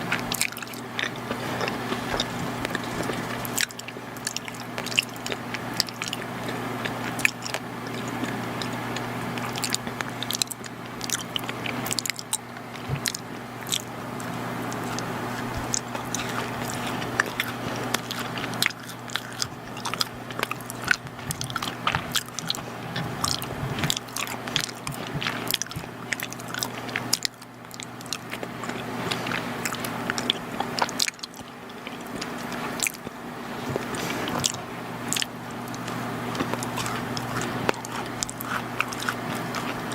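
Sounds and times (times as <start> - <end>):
chewing soft baked goods: 0.0 - 39.9
wet mouth clicks: 0.1 - 39.9.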